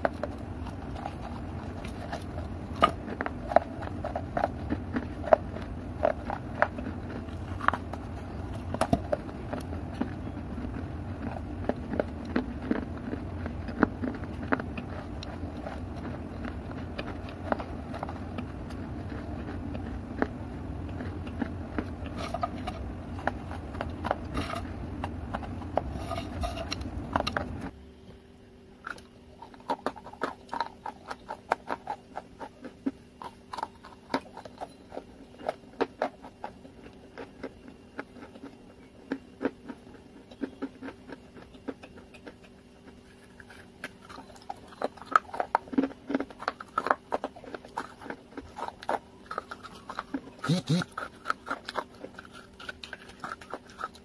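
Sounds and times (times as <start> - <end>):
crunching and chewing clay: 0.0 - 54.0
low hum: 0.0 - 54.0.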